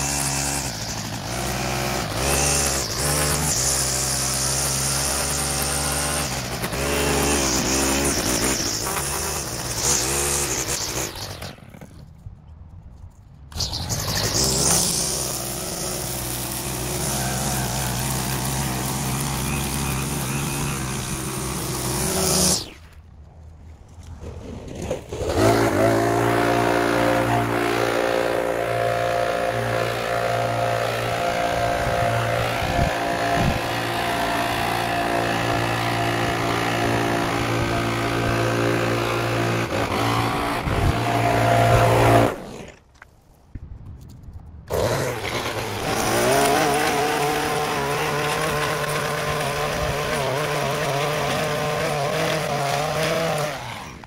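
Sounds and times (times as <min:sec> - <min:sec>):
small gas engine running: 0:00.0 - 0:12.0, 0:13.5 - 0:22.8, 0:25.2 - 0:42.8, 0:44.7 - 0:54.0.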